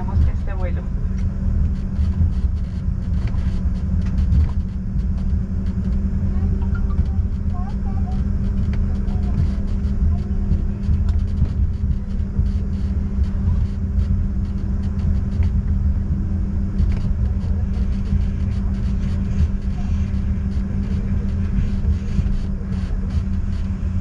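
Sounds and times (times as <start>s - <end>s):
constant hum: 0.0s - 24.0s
low rumble: 0.0s - 24.0s.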